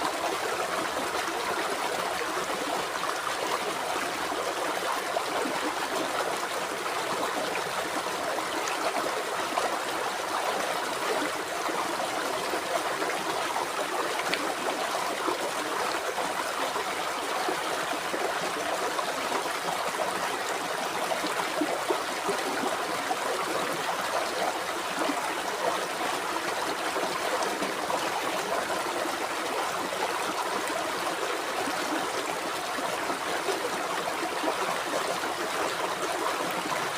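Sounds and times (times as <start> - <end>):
river water flowing over rocks: 0.0 - 36.9.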